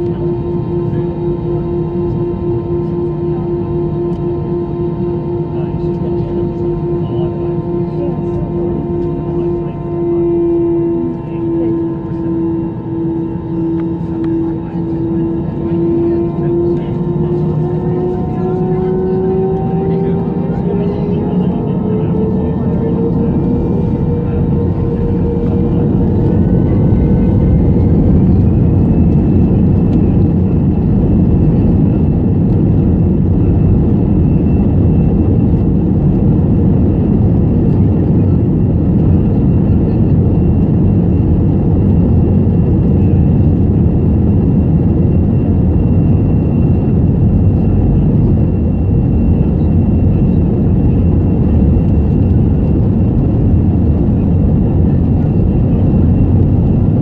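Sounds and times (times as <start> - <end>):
high engine tone: 0.0 - 56.6
jet engine roar inside cabin: 0.0 - 57.0.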